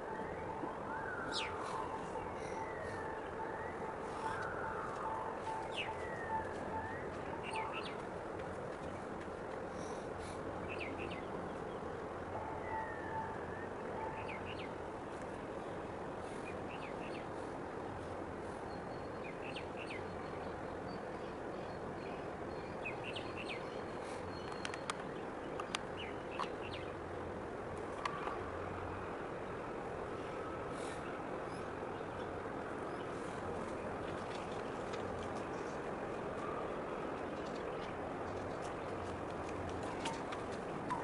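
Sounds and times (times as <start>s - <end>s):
outdoor background rush: 0.0s - 41.0s.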